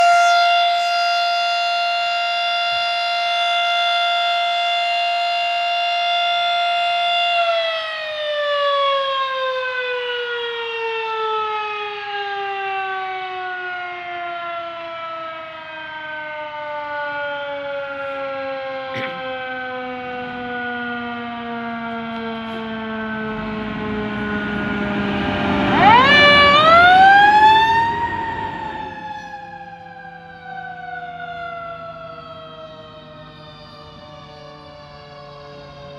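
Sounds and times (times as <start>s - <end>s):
mechanical siren winding down: 0.0s - 35.9s.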